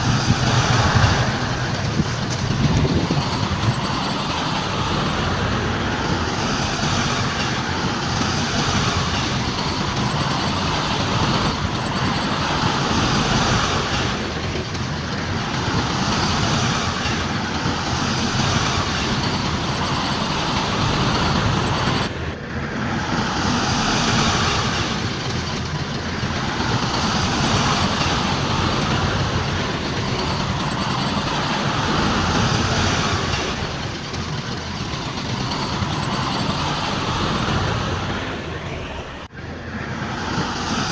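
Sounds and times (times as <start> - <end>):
diesel earthmoving machinery: 0.0 - 40.9.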